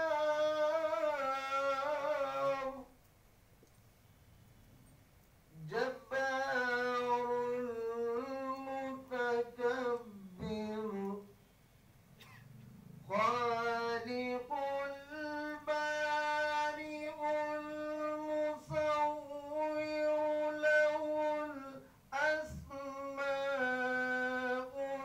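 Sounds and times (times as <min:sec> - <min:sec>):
person singing unaccompanied: 0:00.0 - 0:03.0, 0:05.5 - 0:11.4, 0:13.0 - 0:25.0.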